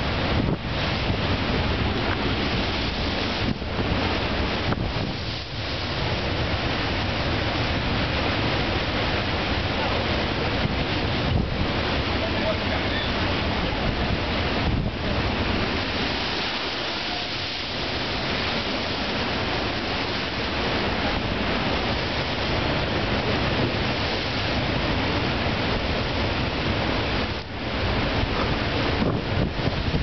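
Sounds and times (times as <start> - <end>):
surf breaking against sea wall: 0.0 - 30.0
wind buffeting microphone: 0.0 - 30.0.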